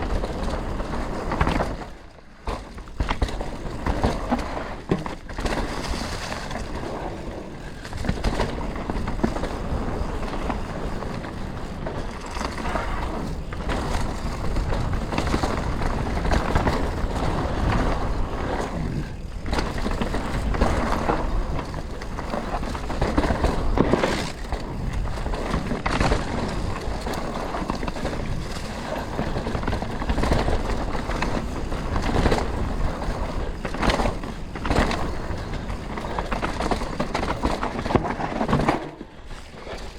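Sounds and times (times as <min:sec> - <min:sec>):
bike knocks and rattles: 0:00.0 - 0:39.9
tyre noise on dirt and stones: 0:00.0 - 0:39.9.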